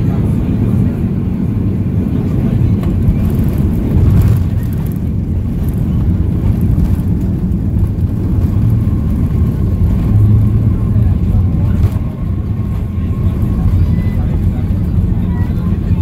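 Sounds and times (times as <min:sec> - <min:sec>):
jet engines and airflow noise: 0:00.0 - 0:16.0
wheels rumbling on runway: 0:00.0 - 0:16.0.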